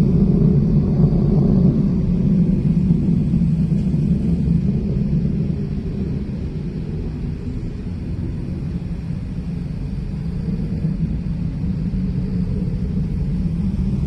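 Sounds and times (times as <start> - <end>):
deep rumble in the sky: 0.0 - 14.0.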